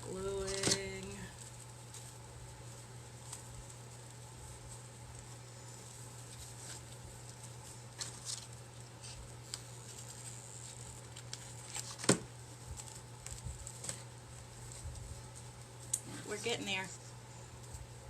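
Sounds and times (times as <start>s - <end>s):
rope rustling: 0.0s - 18.0s
steady low hum: 0.0s - 18.0s.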